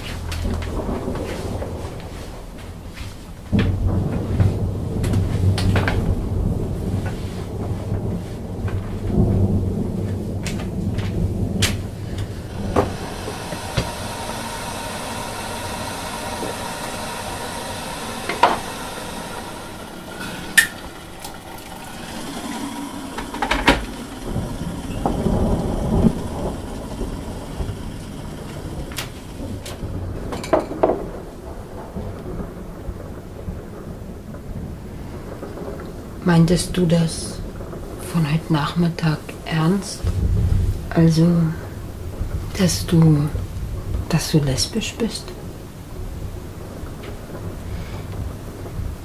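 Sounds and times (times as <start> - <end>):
low thunder rumble: 0.0 - 49.0
steady rain hiss: 0.0 - 49.0.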